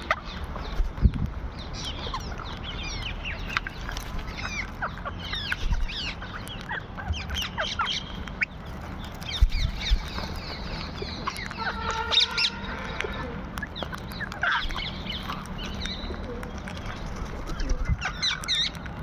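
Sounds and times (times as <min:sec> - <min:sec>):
parrots chirping: 0:00.0 - 0:19.0.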